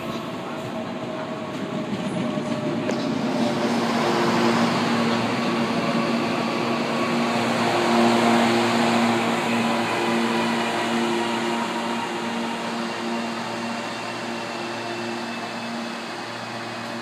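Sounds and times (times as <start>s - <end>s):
train electrical hum: 0.0s - 17.0s
train wheels rumbling: 0.0s - 17.0s.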